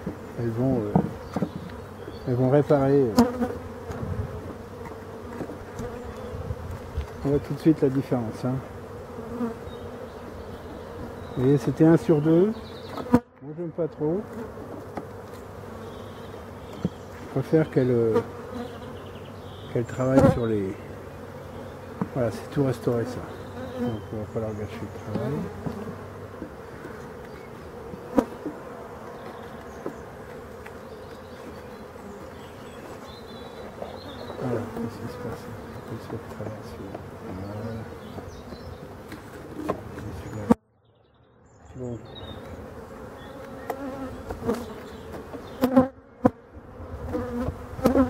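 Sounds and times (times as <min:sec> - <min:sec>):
bees buzzing: 0:00.0 - 0:40.6, 0:41.8 - 0:48.0.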